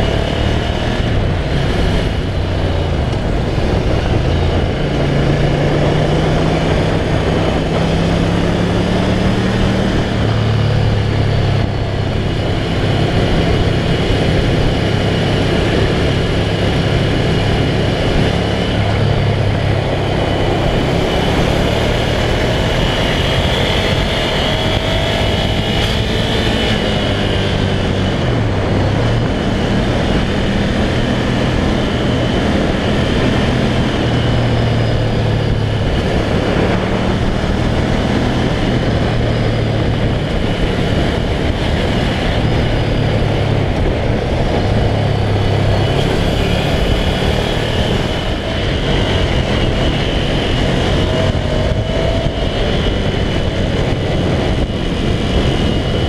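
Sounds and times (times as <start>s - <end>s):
motorcycle engine: 0.0s - 56.0s
wind on microphone: 0.0s - 56.0s.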